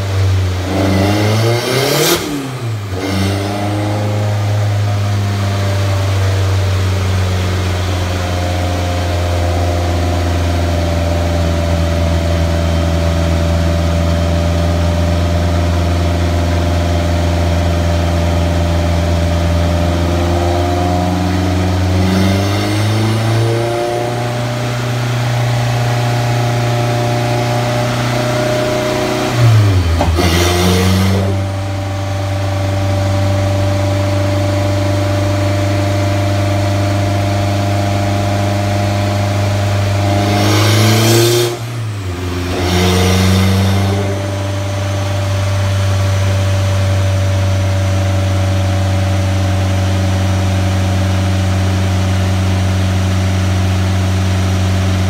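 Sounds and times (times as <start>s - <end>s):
car engine running on dyno: 0.0s - 55.0s.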